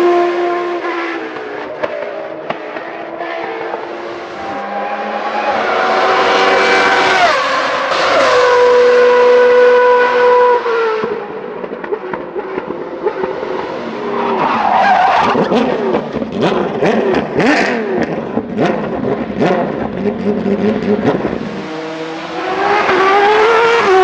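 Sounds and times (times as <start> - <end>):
race car engine at high revs: 0.0 - 24.0.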